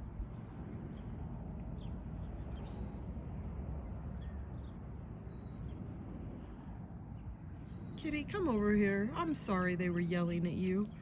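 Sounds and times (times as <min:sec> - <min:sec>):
faint bird chirps: 0:00.7 - 0:09.7.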